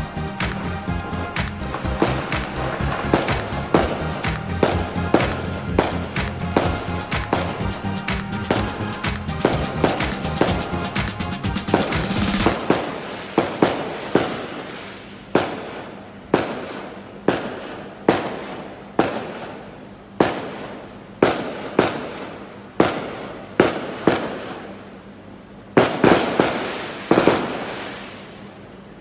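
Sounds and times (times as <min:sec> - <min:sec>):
fireworks bangs with echo: 0:00.0 - 0:24.8, 0:25.8 - 0:28.5.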